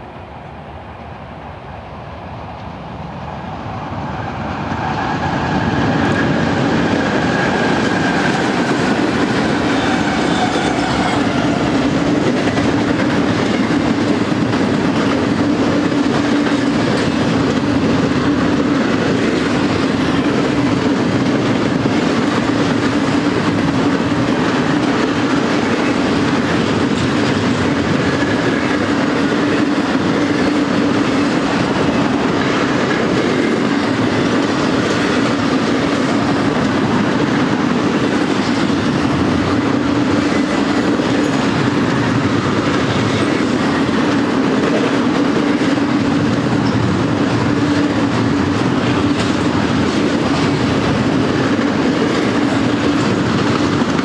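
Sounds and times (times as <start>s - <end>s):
train rumble with wheel clatter: 0.0s - 54.0s.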